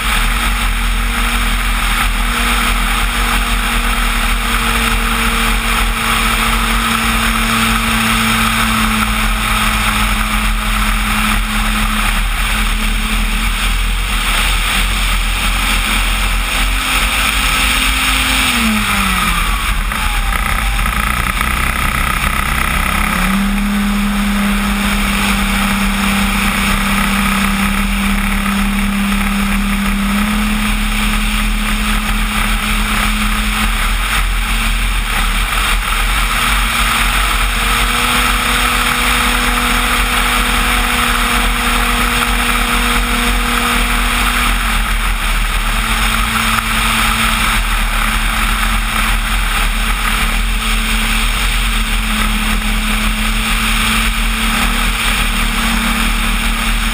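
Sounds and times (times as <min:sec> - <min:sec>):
buzzing model plane propeller: 0:00.0 - 0:56.9
rushing air: 0:00.0 - 0:56.9.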